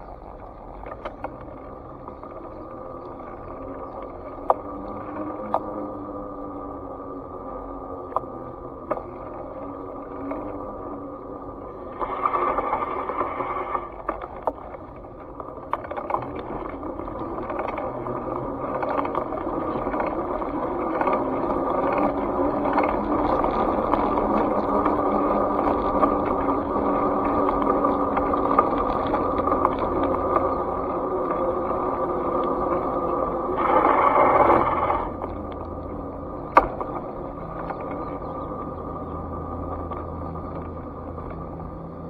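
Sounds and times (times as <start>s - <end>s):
rushing rattling camera noise: 0.0s - 42.0s.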